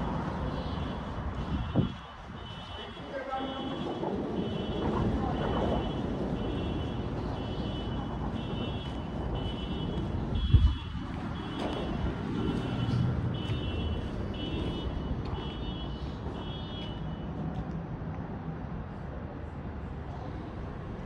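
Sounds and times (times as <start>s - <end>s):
vehicle reversing alarm beeping: 0.0s - 17.3s
low traffic rumble: 0.0s - 21.0s.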